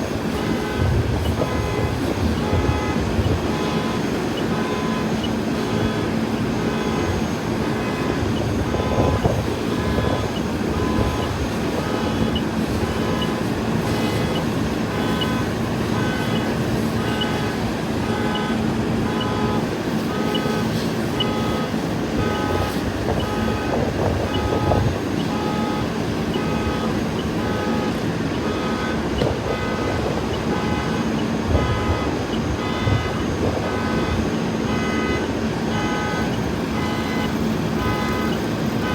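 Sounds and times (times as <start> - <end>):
electronic warning beeper: 0.1 - 38.9.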